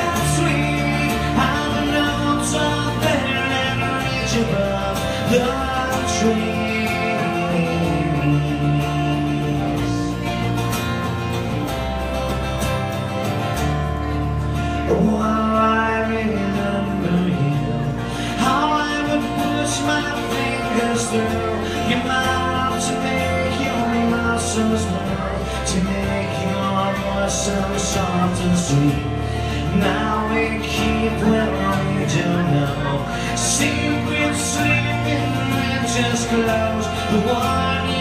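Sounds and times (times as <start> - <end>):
acoustic guitar: 0.0 - 38.0
electric bass: 0.0 - 38.0.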